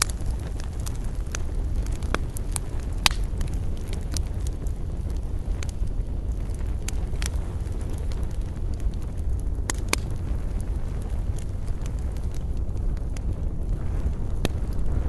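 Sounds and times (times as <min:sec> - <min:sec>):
campfire crackling and popping: 0:00.0 - 0:15.0
low rumble: 0:00.0 - 0:15.0.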